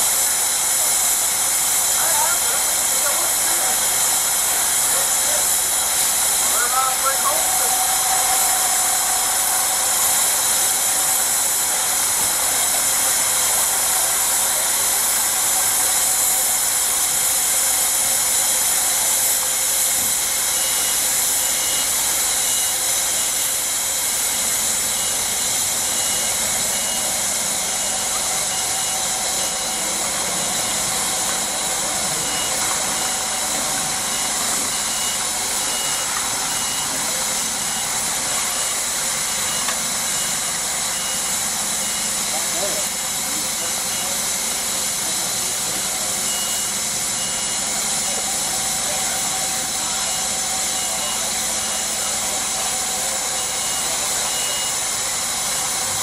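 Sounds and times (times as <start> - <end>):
steam hissing from locomotive: 0.0 - 56.0.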